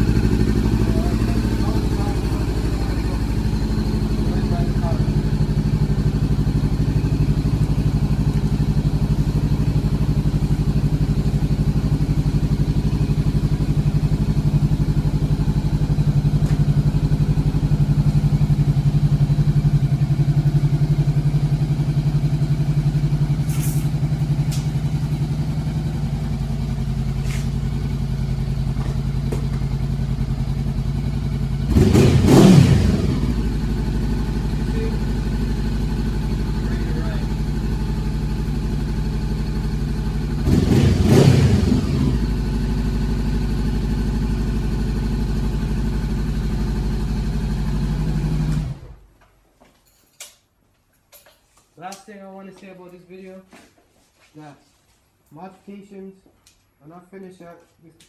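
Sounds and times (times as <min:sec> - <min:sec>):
motorcycle engine idling and revving: 0:00.0 - 0:49.1.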